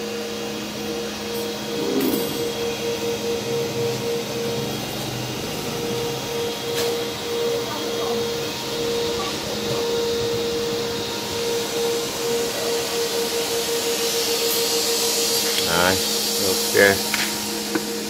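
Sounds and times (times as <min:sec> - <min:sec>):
cooling fans whirring: 0:00.0 - 0:18.0
electrical hum: 0:00.0 - 0:18.0.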